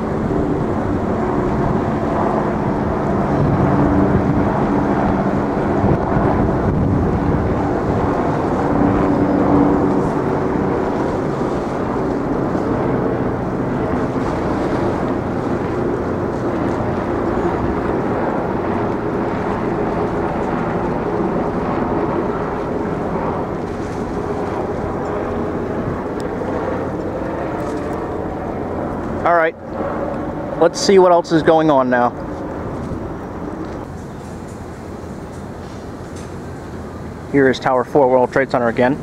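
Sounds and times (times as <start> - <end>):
wind on the microphone: 0.0 - 39.0.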